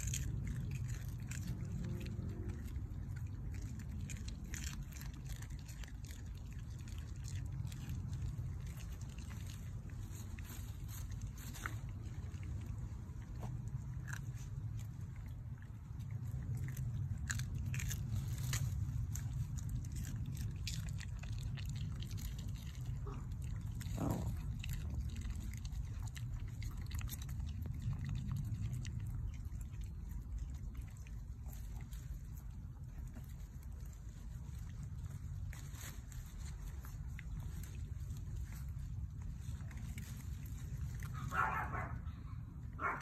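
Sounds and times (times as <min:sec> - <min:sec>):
dogs chewing pea pods: 0:00.0 - 0:43.0.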